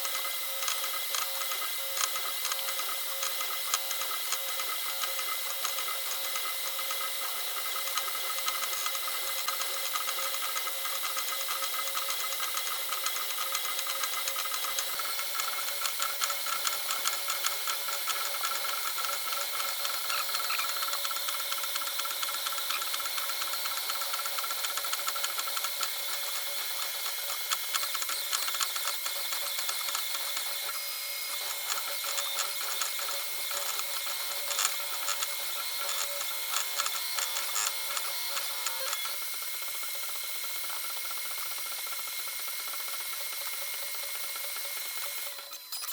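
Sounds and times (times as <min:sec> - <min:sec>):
rapid ticking of printer moves: 0:00.0 - 0:40.8.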